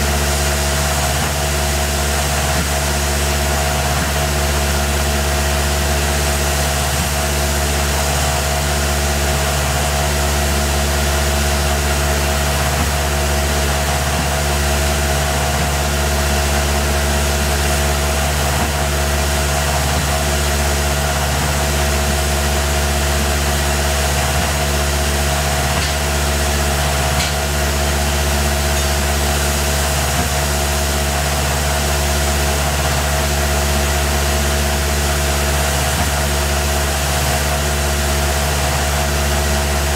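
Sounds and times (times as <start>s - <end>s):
cnc mill machining steel: 0.0s - 39.9s.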